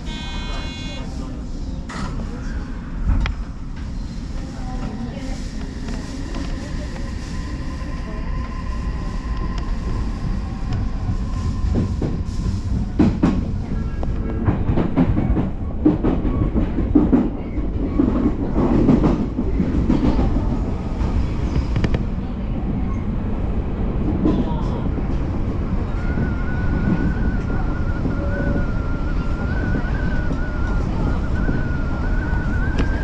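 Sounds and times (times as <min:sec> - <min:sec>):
electric train rumble: 0:00.0 - 0:33.0.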